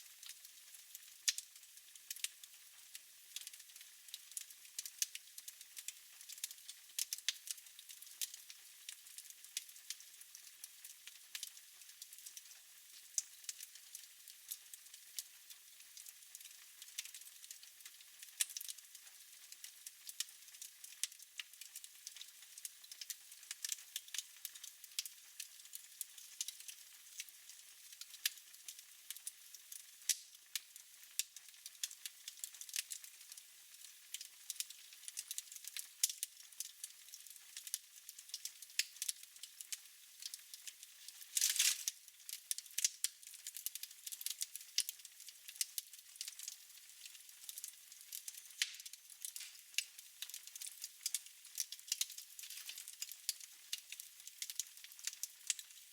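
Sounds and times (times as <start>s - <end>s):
fire crackling and popping: 0.0s - 55.9s.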